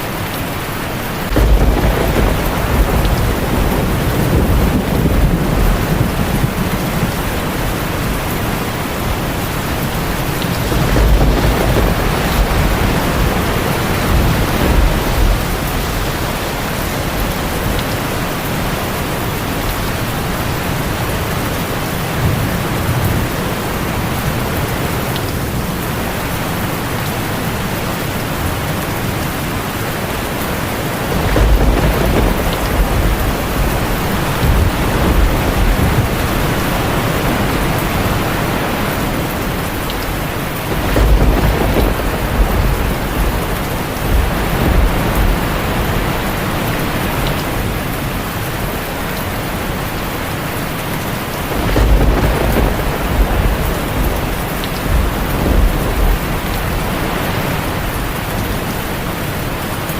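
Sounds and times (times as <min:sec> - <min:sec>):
heavy rain on a tin roof: 0:00.0 - 0:59.9
thunder rumbling: 0:00.8 - 0:59.6.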